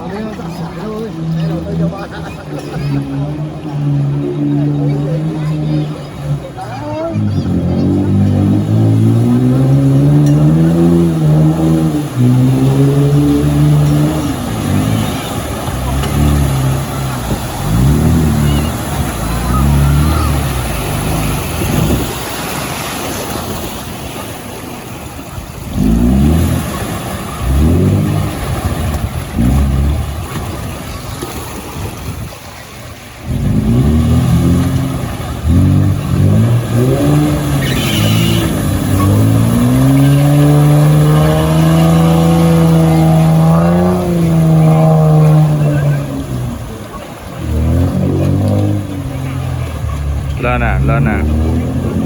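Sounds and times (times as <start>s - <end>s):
engine revving: 0.0s - 23.8s, 25.6s - 31.4s, 33.2s - 52.0s.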